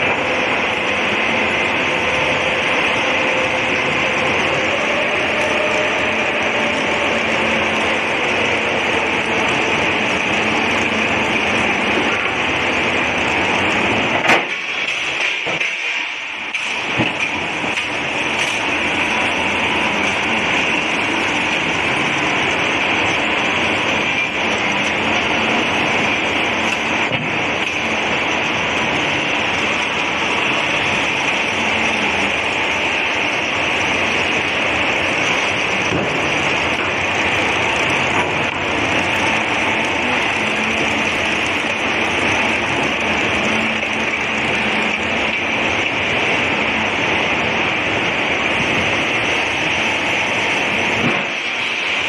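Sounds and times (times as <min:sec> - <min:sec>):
log debarking machine running: 0:00.0 - 0:52.0.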